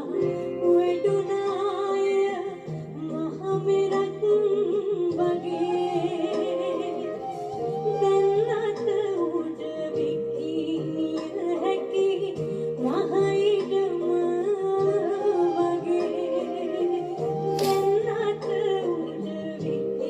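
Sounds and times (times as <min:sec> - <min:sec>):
instrumental accompaniment: 0:00.0 - 0:20.0
person singing: 0:00.0 - 0:20.0.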